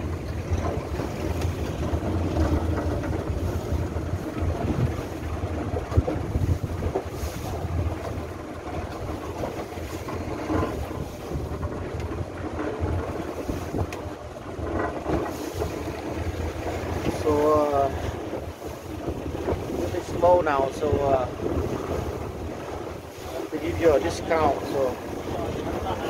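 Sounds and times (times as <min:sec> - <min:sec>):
boat engine running: 0:00.0 - 0:26.0
water rushing past hull: 0:00.0 - 0:26.0
wind buffeting microphone: 0:00.0 - 0:26.0.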